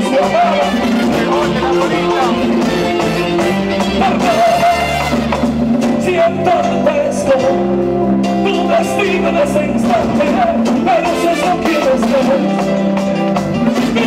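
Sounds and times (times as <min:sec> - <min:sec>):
man singing into a microphone: 0:00.0 - 0:05.1, 0:05.8 - 0:12.8
latin dance band playing: 0:00.0 - 0:14.0.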